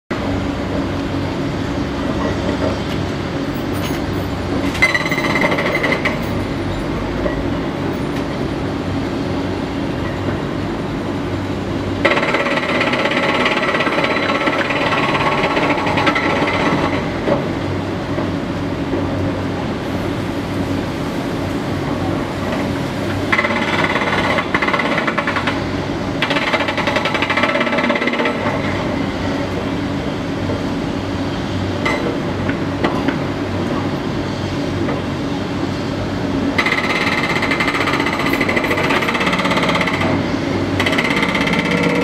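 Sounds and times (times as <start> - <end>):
diesel engines running: 0.1 - 42.0.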